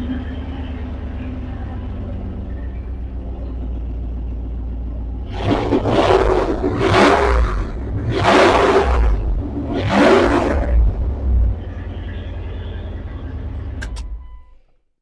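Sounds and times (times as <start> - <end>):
car engine idling and revving: 0.0 - 14.6.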